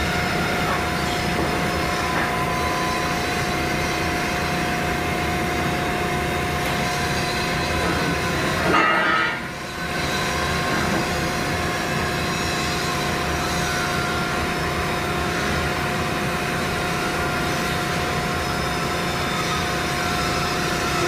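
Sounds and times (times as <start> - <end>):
mechanical drone with low hum: 0.0 - 21.0.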